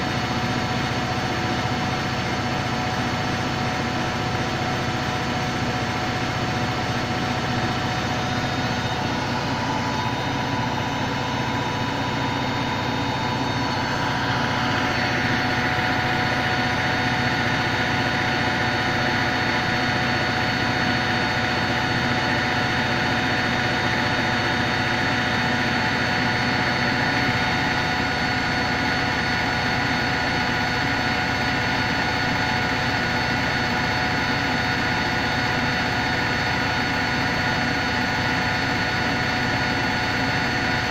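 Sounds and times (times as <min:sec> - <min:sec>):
high motor whine: 0:00.0 - 0:40.9
washing machine spinning: 0:00.0 - 0:40.9.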